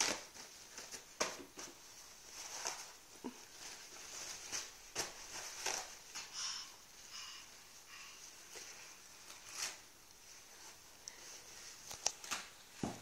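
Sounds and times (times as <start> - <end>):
paper towel rustling: 0.0 - 13.0.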